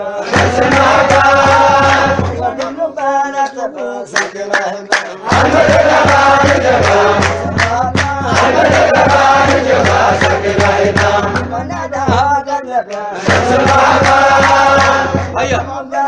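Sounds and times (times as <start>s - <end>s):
voices singing a melodic chant: 0.0s - 16.0s
steady beat: 0.3s - 2.9s, 5.1s - 16.0s.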